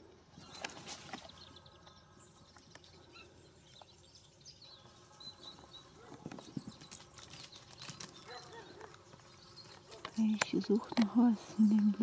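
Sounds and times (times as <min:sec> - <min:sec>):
distant bird chirps: 0:00.3 - 0:12.0.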